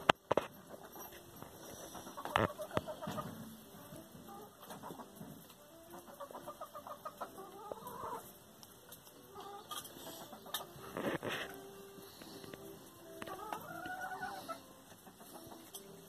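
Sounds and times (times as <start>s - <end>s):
animals eating from steel bowl: 0.0s - 16.0s
hens clucking: 0.0s - 16.0s.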